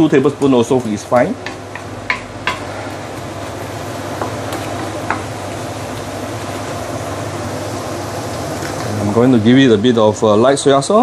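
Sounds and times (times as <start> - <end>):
chili paste sizzling in oil: 0.0 - 11.0
range hood fan hum: 0.0 - 11.0.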